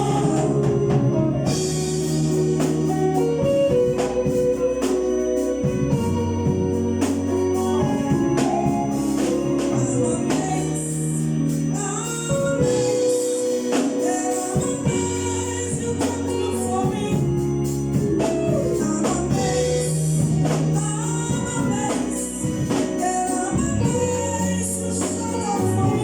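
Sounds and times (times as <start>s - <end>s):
gospel choir singing: 0.0s - 26.0s
organ: 0.0s - 26.0s
steady percussion beat: 0.0s - 26.0s.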